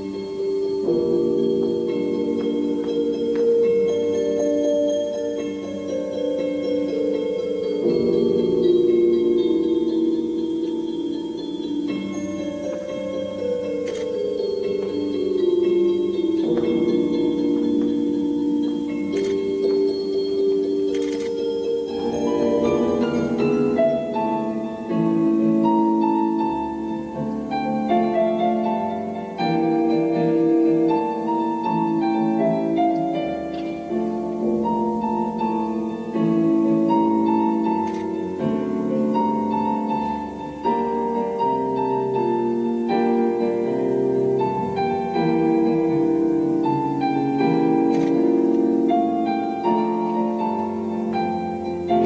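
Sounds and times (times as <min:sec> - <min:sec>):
instrumental keyboard music: 0:00.0 - 0:52.0.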